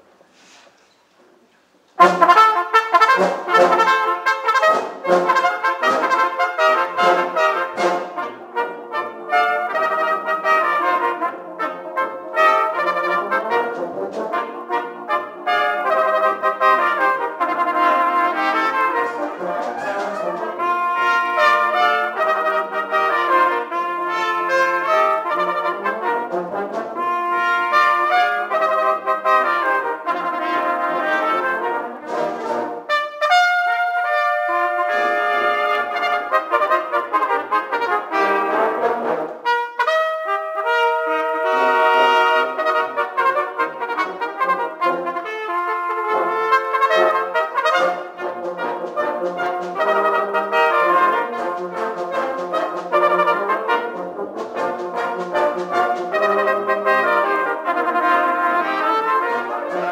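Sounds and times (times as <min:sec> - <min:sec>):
brass band playing: 0:02.0 - 0:59.9
cornets playing together: 0:02.0 - 0:59.9.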